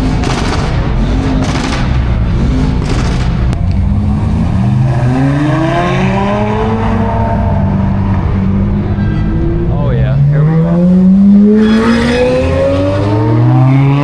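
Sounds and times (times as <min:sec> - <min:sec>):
loud steady rumble: 0:00.0 - 0:11.5
car engine accelerating: 0:00.0 - 0:14.0.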